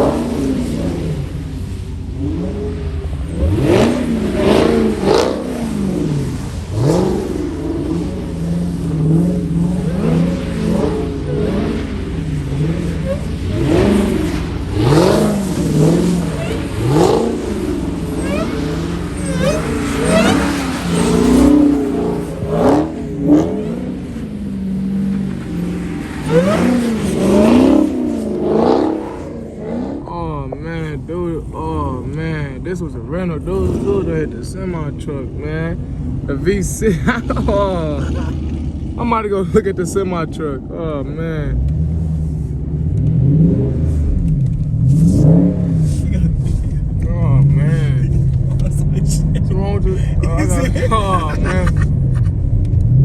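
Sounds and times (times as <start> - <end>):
car engines revving: 0.0 - 53.0
low rumble: 0.0 - 53.0.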